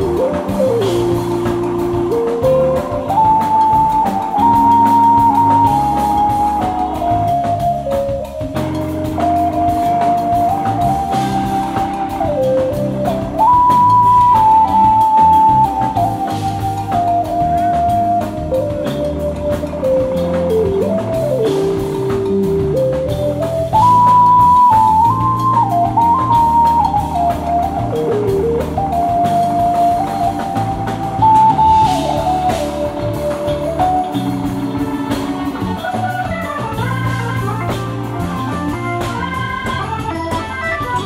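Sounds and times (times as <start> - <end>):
jazz-funk band playing: 0.0 - 41.0
long held lead melody notes: 0.0 - 41.0.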